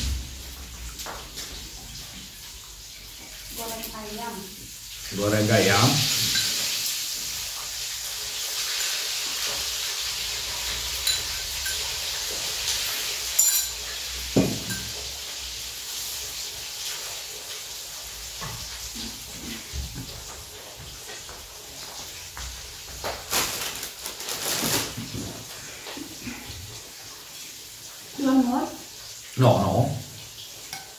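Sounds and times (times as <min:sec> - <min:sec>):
chicken frying in hot oil: 0:00.0 - 0:30.9.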